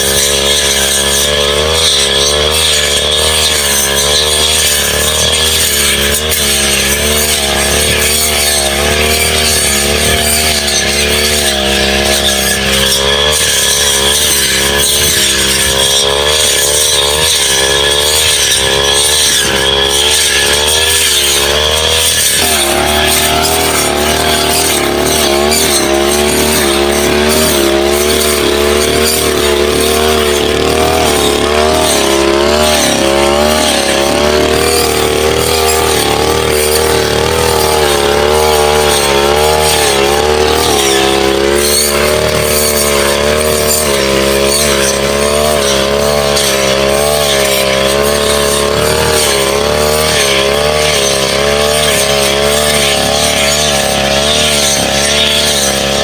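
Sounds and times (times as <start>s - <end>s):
brush cutter engine at high revs: 0.0s - 56.0s.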